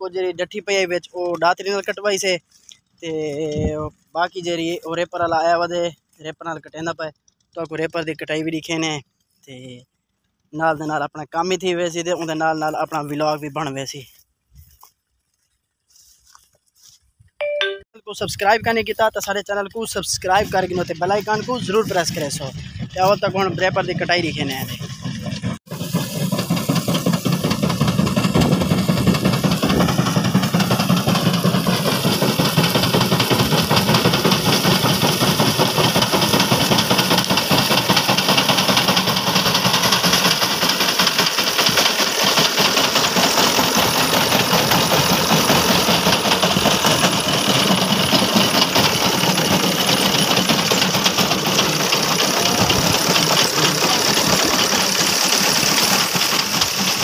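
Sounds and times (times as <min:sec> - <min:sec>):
reaper engine running: 0:00.0 - 0:57.0.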